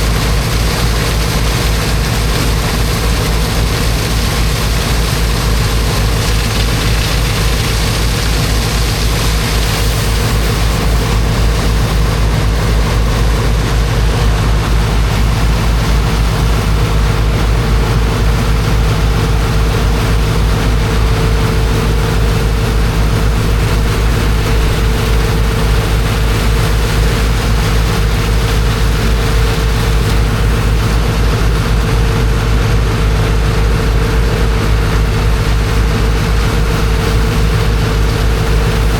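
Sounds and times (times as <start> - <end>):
rushing water hiss: 0.0 - 13.4, 14.9 - 32.2, 33.6 - 38.9
heavy engine driving water pump: 0.0 - 38.9.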